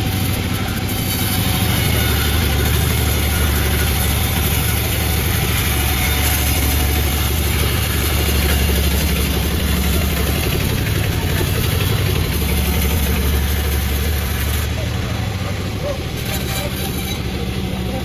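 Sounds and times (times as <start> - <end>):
chainsaw engine running: 0.0 - 18.0.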